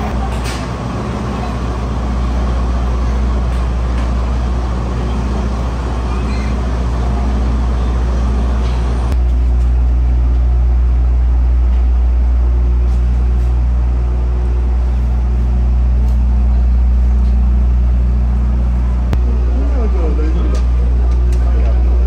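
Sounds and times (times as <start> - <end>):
diesel train engine idling: 0.0 - 22.0.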